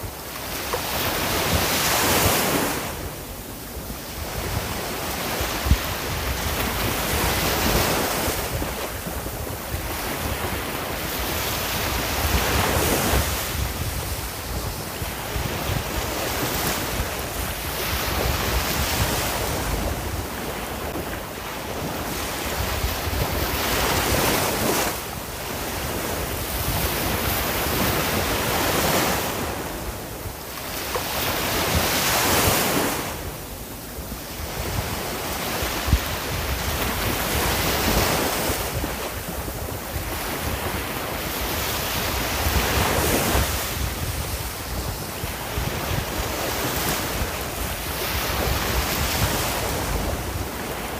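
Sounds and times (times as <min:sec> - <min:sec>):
sea waves breaking on shore: 0:00.0 - 0:50.9
wind rumbling on microphone: 0:00.0 - 0:50.9.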